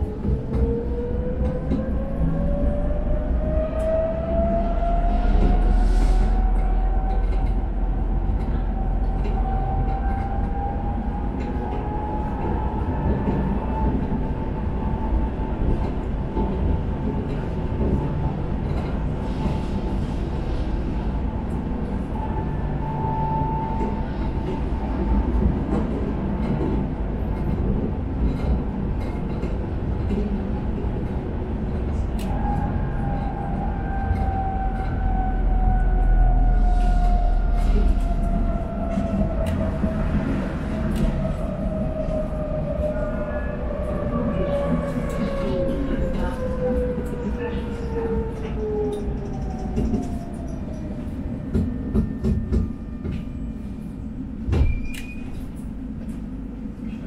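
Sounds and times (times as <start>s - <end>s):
tram rumbling on rails: 0.0s - 57.0s.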